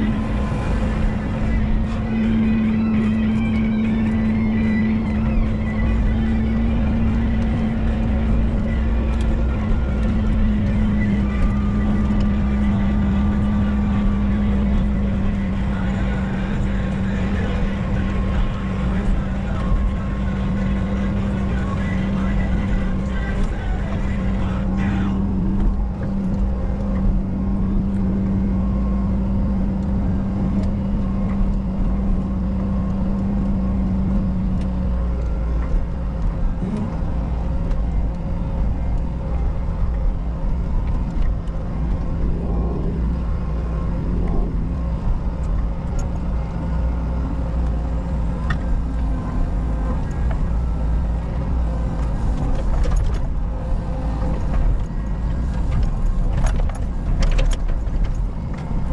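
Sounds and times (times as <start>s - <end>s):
diesel engine rumble: 0.0s - 58.9s
steady hum: 0.0s - 58.9s.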